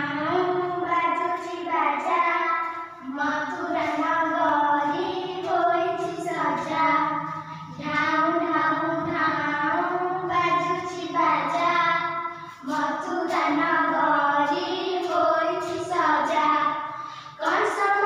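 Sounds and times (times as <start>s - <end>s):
child singing: 0.0s - 18.0s.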